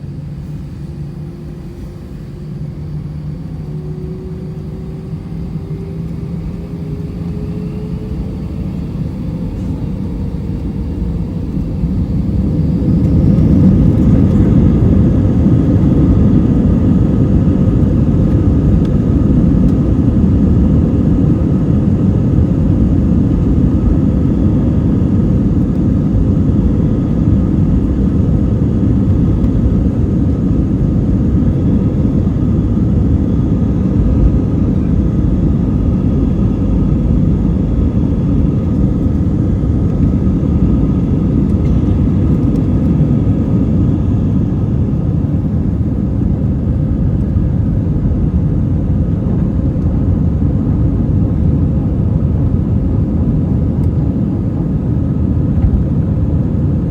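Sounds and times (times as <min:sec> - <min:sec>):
faint whines: 0:00.0 - 0:48.1
jet engine cabin drone: 0:00.0 - 0:56.9.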